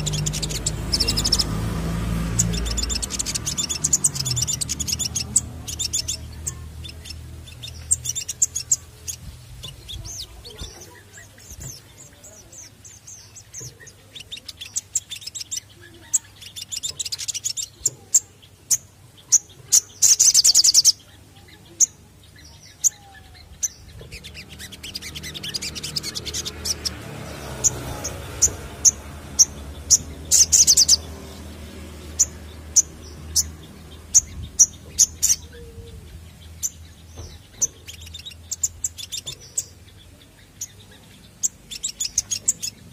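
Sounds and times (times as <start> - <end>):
bird chirping: 0.0 - 42.9
buzzy bird trills: 0.0 - 42.9.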